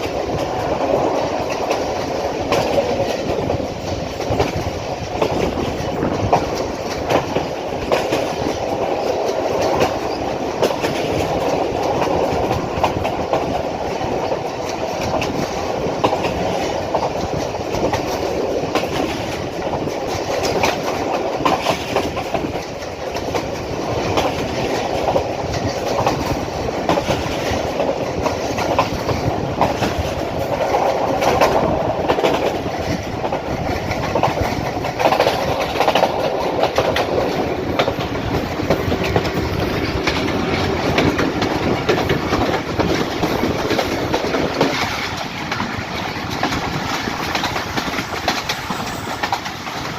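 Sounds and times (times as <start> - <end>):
train rumble: 0.0 - 49.9
wheels clattering over rail joints: 0.0 - 49.9.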